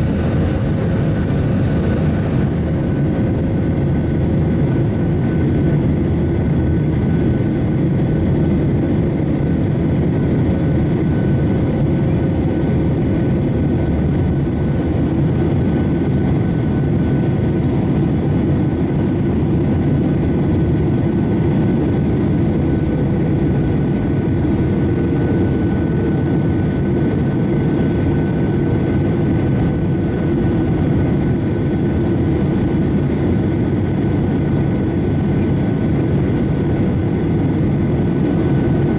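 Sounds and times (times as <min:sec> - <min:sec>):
faint steady whines: 0:00.0 - 0:38.9
jet engine rumble in cabin: 0:00.0 - 0:38.9.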